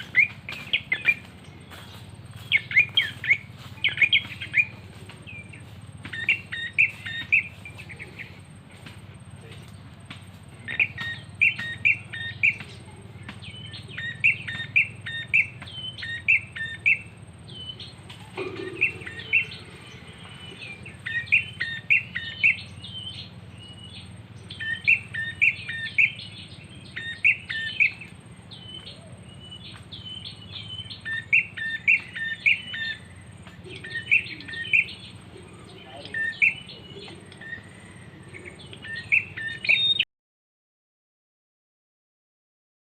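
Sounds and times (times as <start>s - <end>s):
steady low hum: 0.0s - 40.0s
bird chirping: 0.0s - 40.1s.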